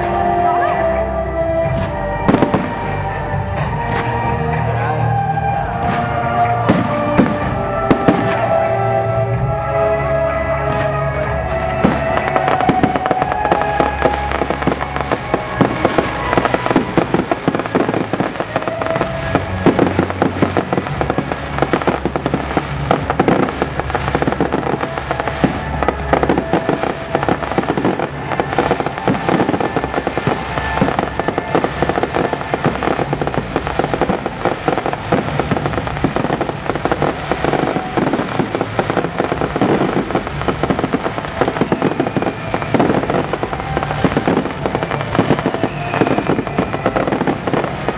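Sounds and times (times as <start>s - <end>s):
fireworks bangs and crackling bursts: 0.0s - 47.9s.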